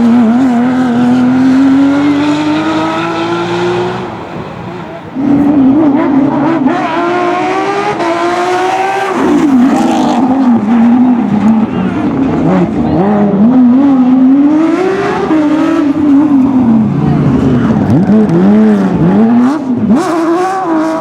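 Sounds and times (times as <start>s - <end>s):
racing car engine revving: 0.0s - 21.0s.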